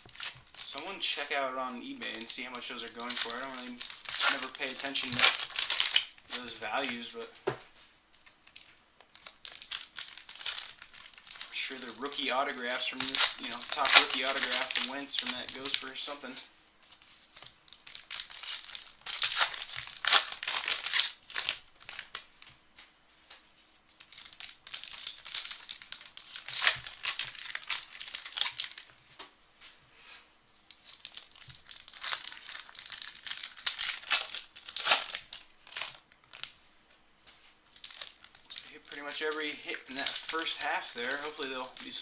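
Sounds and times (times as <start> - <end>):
foil wrappers crinkling and tearing: 0.0 - 7.2, 8.2 - 22.6, 23.9 - 29.0, 30.7 - 36.6, 37.3 - 42.0.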